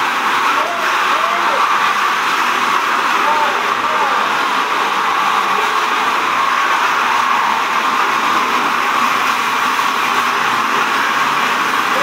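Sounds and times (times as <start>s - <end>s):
floor sander running: 0.0s - 12.0s.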